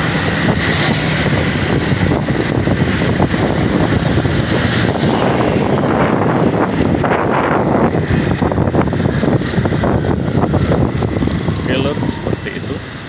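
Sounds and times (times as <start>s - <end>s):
road traffic engines: 0.0s - 13.0s
wind buffeting microphone: 0.0s - 13.0s.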